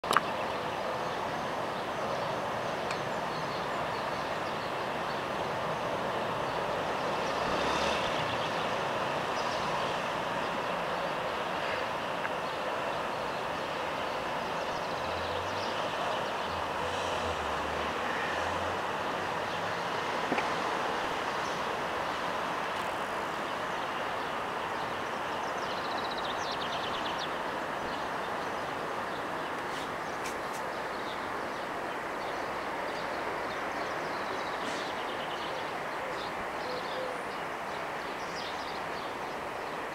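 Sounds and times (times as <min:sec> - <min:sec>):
continuous outdoor rush: 0:00.0 - 0:39.9.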